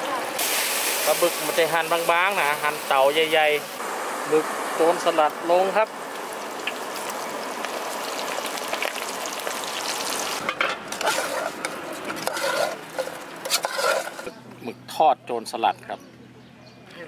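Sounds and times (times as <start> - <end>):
deep-frying sizzle in oil: 0.0 - 14.2.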